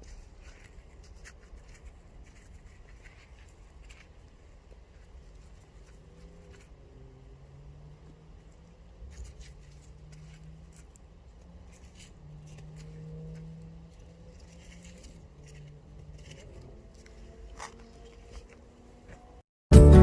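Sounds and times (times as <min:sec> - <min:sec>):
potatoes scraping in soil: 0:00.0 - 0:19.4.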